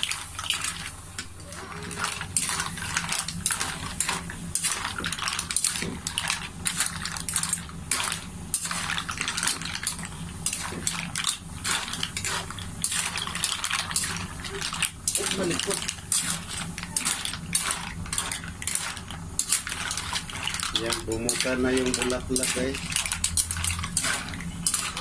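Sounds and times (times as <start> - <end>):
metal spatula stirring in a wok: 0.0 - 25.0
mussel shells clattering in a wok: 0.0 - 25.0.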